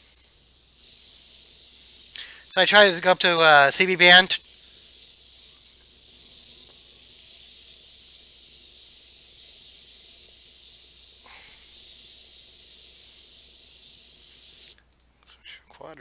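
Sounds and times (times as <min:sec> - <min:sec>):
radio static hiss: 0:00.0 - 0:14.8.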